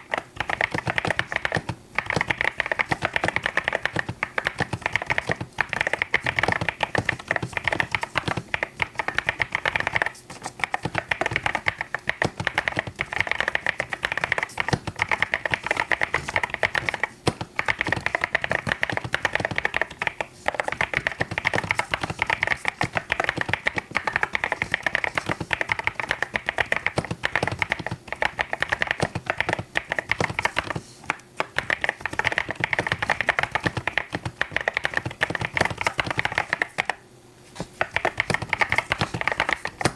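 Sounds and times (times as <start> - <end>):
typing on mechanical keyboard: 0.0 - 37.0, 37.8 - 39.9.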